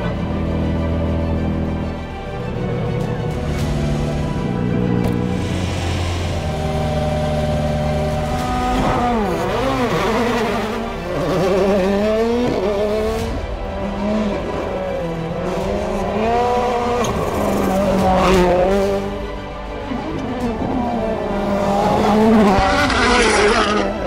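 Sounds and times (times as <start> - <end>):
background music: 0.0 - 24.0
rally car engines revving: 0.0 - 24.0.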